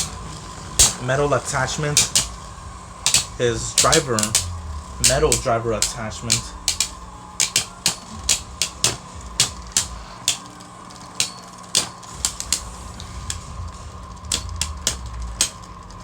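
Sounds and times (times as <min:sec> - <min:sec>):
spinning tops clashing clicks: 0:00.0 - 0:16.0.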